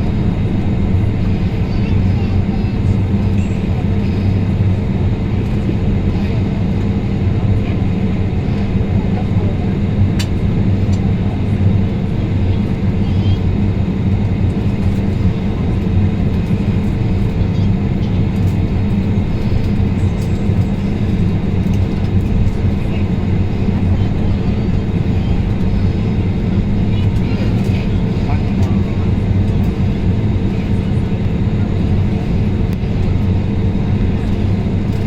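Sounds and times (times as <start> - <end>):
airliner cabin drone: 0.0 - 35.0.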